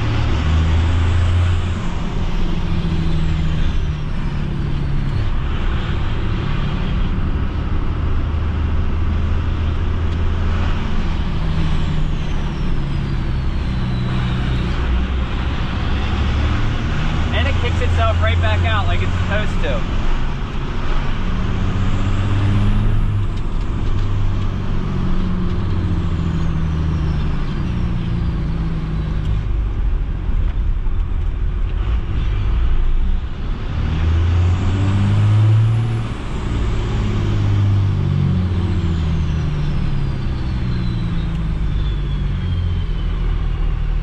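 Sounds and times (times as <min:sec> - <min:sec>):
diesel truck engine: 0:00.0 - 0:44.0.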